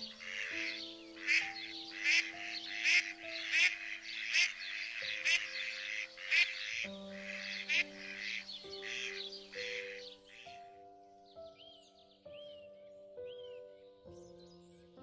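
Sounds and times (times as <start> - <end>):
calm music with held notes: 0.0 - 15.0.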